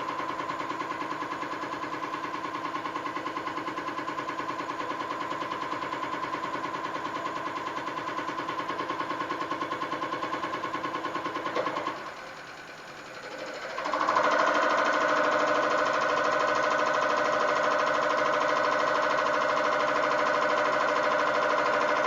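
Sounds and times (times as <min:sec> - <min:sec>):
test bench motor pulsing and humming: 0:00.0 - 0:22.0.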